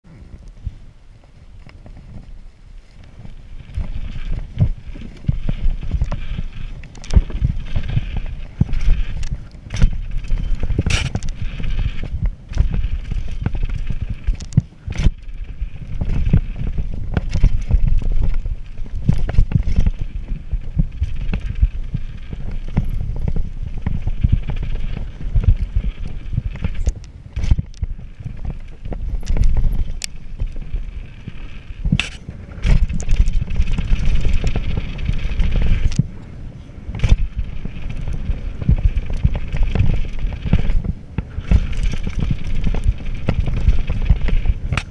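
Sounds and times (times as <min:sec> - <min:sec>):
wind on microphone: 0:00.0 - 0:44.9
bike knocking and rattling: 0:00.1 - 0:44.9
tyres on dirt: 0:01.1 - 0:44.9.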